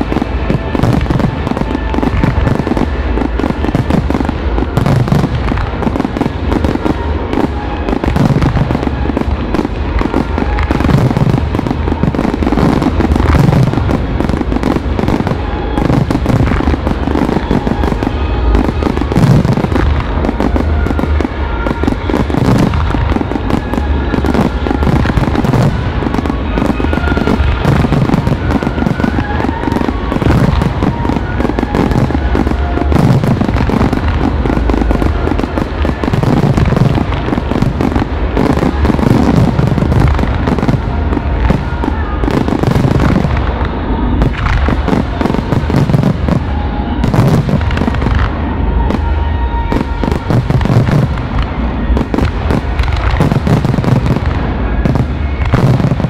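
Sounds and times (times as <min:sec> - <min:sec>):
fireworks launches and bursts: 0:00.0 - 0:56.0.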